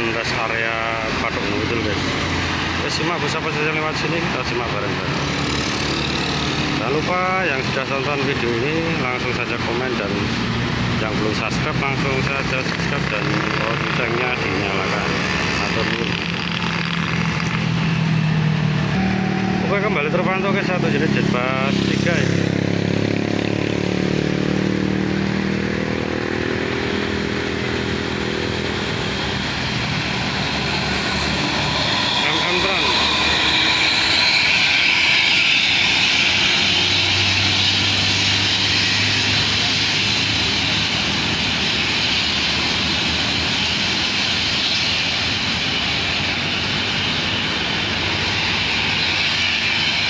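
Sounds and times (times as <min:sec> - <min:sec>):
bus diesel engine droning: 0:00.0 - 0:24.0, 0:26.5 - 0:50.0
road noise: 0:00.0 - 0:50.0.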